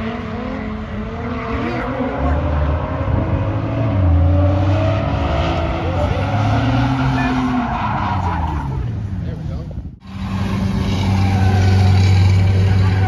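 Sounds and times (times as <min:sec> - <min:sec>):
car engine revving: 0:00.0 - 0:08.9, 0:10.0 - 0:13.0.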